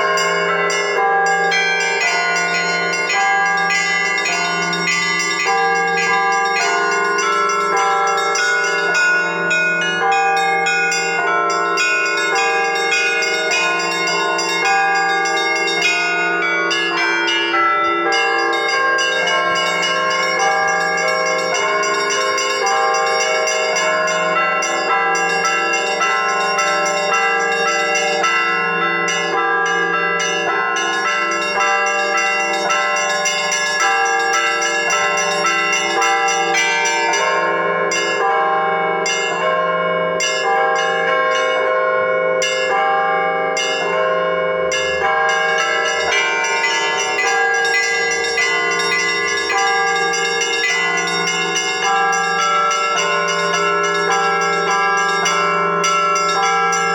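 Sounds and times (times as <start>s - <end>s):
church bells ringing: 0.0s - 56.9s
steady low bell tone: 0.0s - 56.9s.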